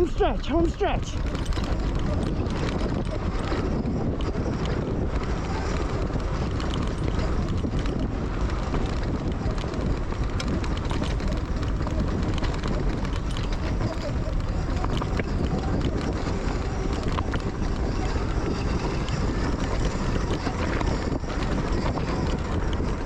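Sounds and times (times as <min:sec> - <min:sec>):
tyres on rocky dirt trail: 0:00.0 - 0:23.0
wind over microphone: 0:00.0 - 0:23.0.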